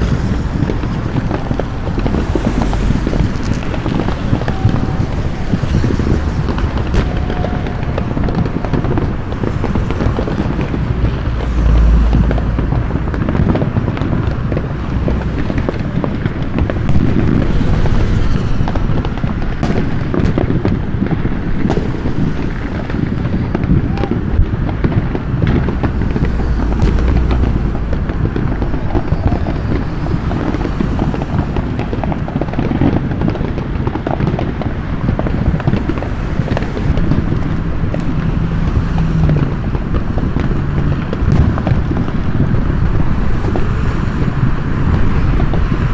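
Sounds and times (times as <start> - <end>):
deep low rumbles: 0.0 - 45.9
fireworks crackling and banging: 0.0 - 45.9.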